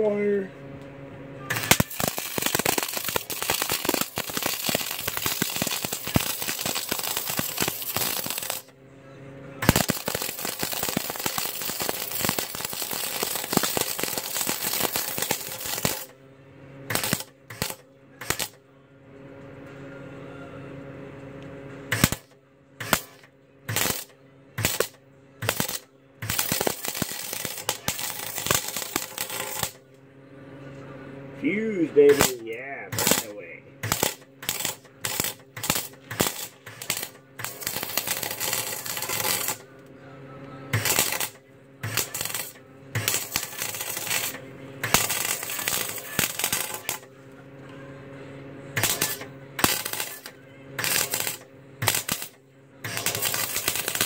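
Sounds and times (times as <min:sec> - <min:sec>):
steady hum: 0:00.0 - 0:54.0
welder crackling and sputtering: 0:01.4 - 0:08.8, 0:09.6 - 0:16.2, 0:16.8 - 0:18.6, 0:21.9 - 0:30.0, 0:31.4 - 0:47.5, 0:48.6 - 0:54.0.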